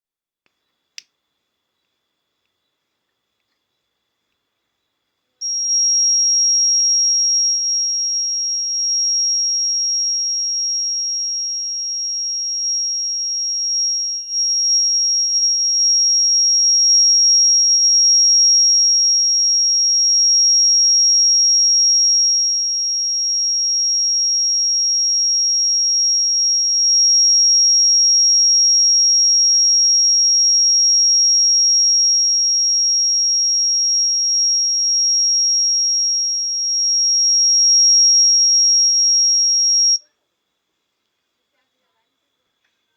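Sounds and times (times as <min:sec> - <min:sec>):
high-pitched alarm buzzer tone: 0:05.4 - 0:40.0.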